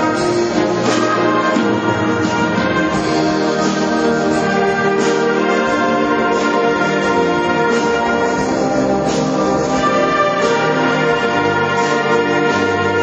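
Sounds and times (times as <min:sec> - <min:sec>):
brass band playing chords: 0:00.0 - 0:13.0
percussion hits: 0:00.0 - 0:13.0.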